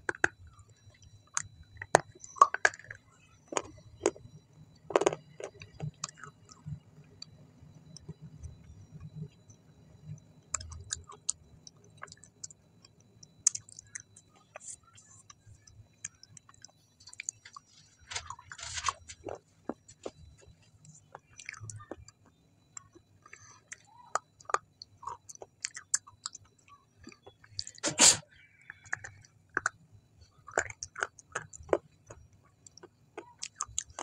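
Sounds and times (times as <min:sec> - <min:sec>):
person chewing food: 0:00.0 - 0:09.5, 0:10.1 - 0:34.0.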